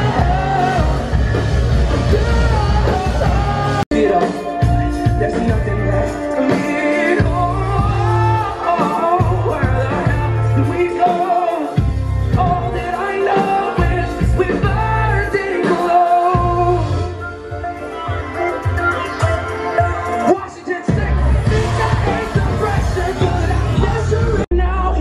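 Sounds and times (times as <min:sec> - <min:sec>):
man singing into microphone: 0:00.0 - 0:17.2, 0:18.4 - 0:25.0
live rock band playing: 0:00.0 - 0:24.8.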